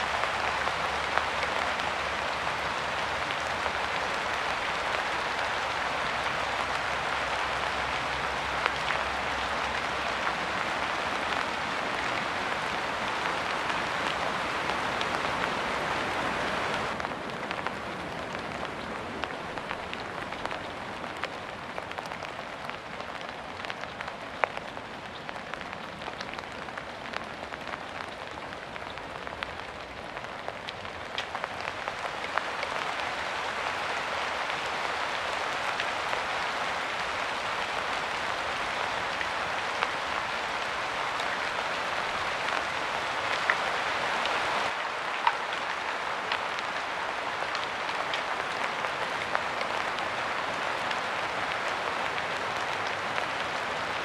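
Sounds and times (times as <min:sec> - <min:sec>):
raindrops ticking: 0:00.0 - 0:54.0
steady rain falling: 0:00.0 - 0:54.0.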